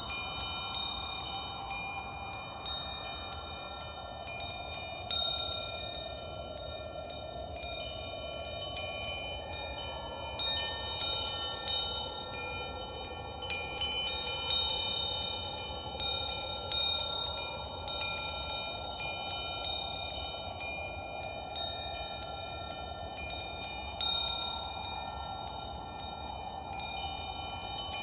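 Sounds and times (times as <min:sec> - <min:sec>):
wind chimes ringing: 0:00.0 - 0:28.0.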